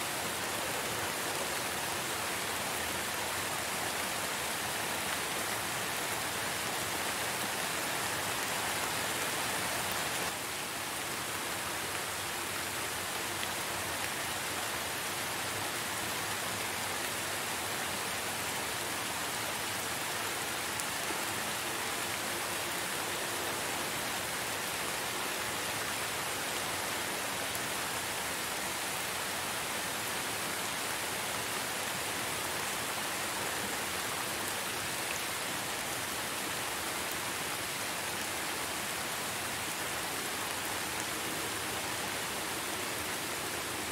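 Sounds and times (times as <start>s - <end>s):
steady rain hissing: 0.0s - 43.9s.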